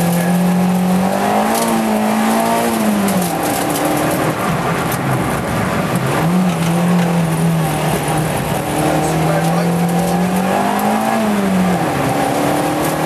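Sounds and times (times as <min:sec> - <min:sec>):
car engine revving: 0:00.0 - 0:13.0
tyre and road noise on wet tarmac: 0:00.0 - 0:13.0.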